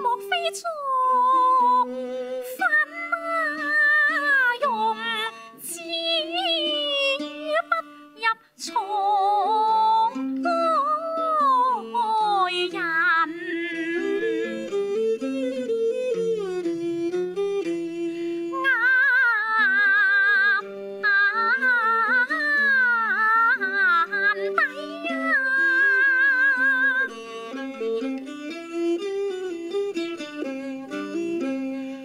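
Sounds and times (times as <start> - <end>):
woman singing opera: 0.0 - 16.6, 17.8 - 27.2
two-string fiddle: 0.0 - 32.0.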